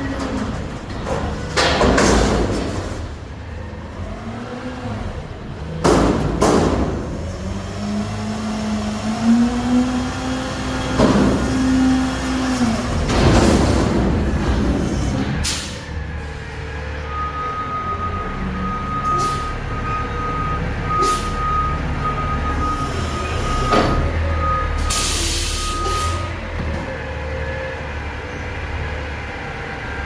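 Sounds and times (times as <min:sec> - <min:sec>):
garbage truck engine revving: 0:00.0 - 0:30.0.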